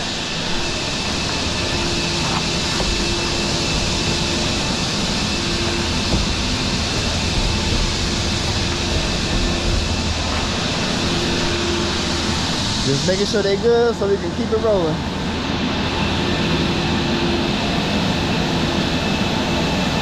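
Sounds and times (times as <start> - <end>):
faint hum: 0.0 - 20.0
heavy diesel engine running: 0.0 - 20.0.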